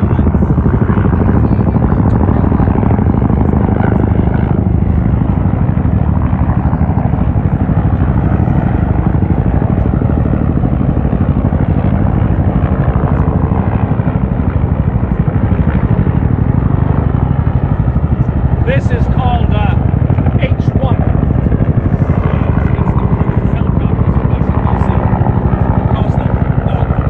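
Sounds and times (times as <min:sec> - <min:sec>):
helicopter rotor blades beating: 0:00.0 - 0:27.0.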